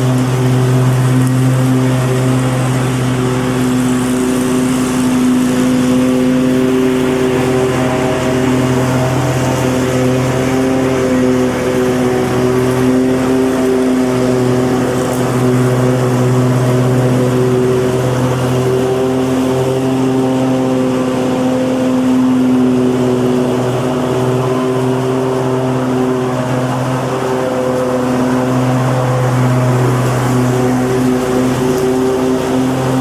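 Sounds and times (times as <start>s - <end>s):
lawn mower engine droning: 0.0s - 33.0s.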